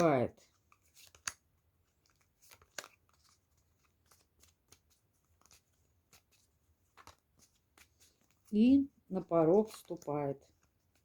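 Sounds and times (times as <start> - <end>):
cards clicking and rustling: 0.0 - 8.6, 9.4 - 11.0.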